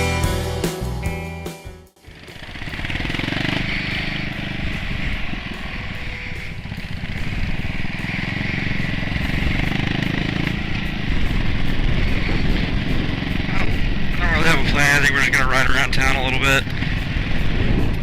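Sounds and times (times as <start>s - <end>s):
motorcycle engine running: 0.0s - 18.0s
wind rushing over microphone: 2.5s - 18.0s.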